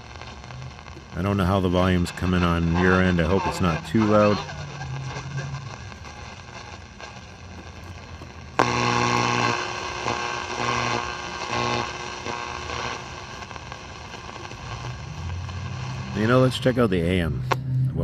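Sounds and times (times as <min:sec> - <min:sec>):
humming droning signal: 0:00.0 - 0:18.0
radio static and hiss: 0:00.0 - 0:18.0.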